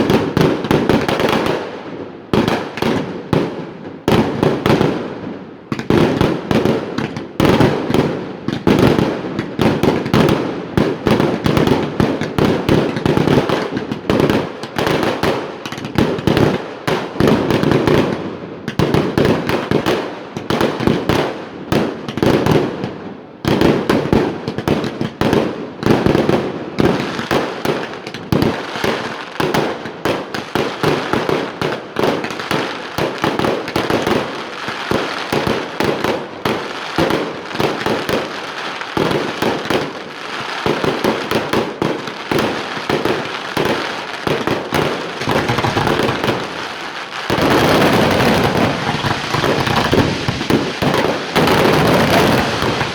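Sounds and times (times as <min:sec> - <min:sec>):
fireworks bursting with loud bangs: 0:00.0 - 0:52.9.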